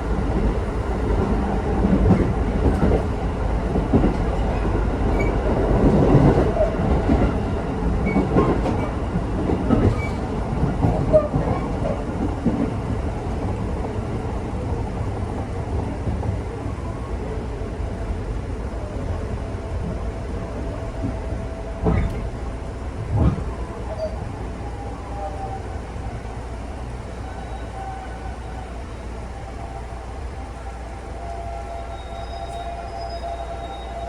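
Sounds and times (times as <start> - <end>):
train running noise: 0.0 - 34.0.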